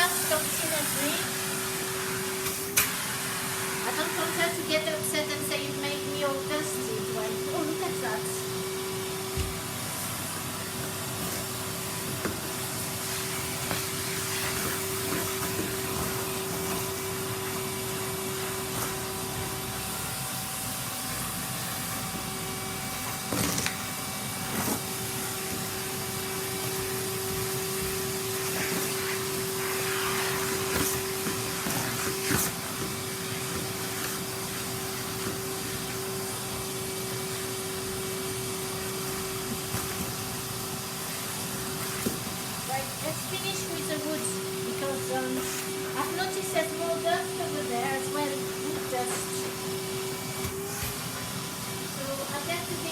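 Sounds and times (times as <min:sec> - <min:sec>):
vacuum cleaner humming: 0:00.0 - 0:52.9.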